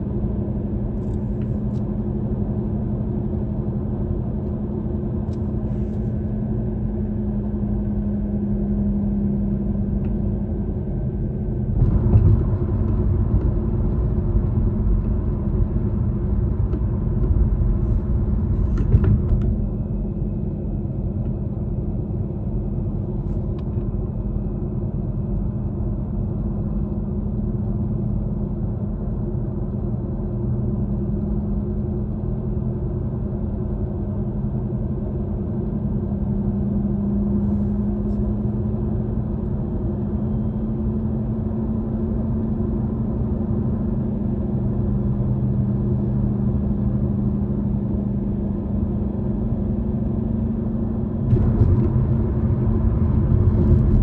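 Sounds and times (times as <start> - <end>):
car road noise rumble: 0.0 - 54.0
constant low hum: 0.0 - 54.0.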